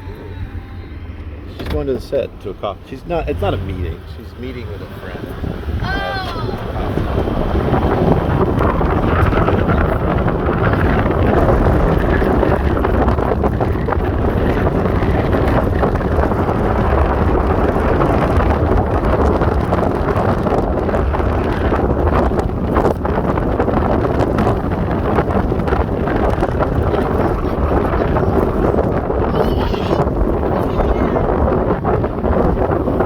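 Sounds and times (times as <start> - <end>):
moving vehicle noise: 0.0 - 33.0
wind buffeting microphone: 0.0 - 33.0.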